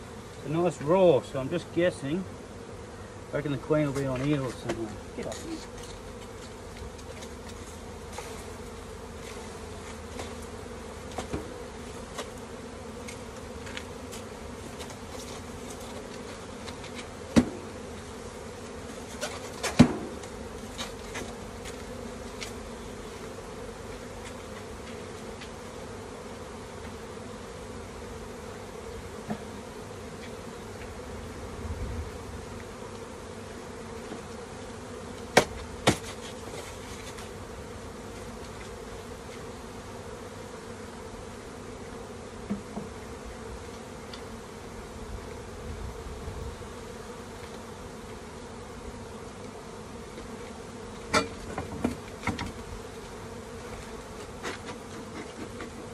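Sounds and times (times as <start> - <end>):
bees buzzing: 0.0 - 55.9.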